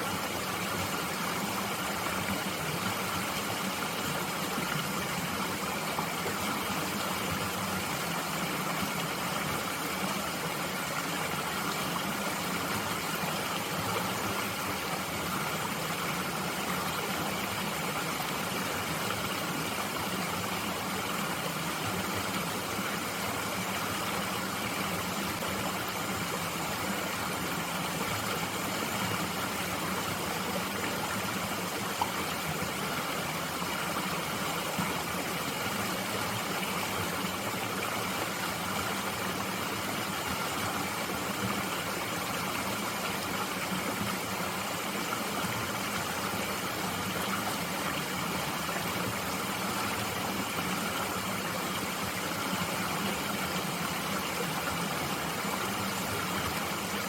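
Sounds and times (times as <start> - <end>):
mountain stream flowing: 0.0 - 57.0.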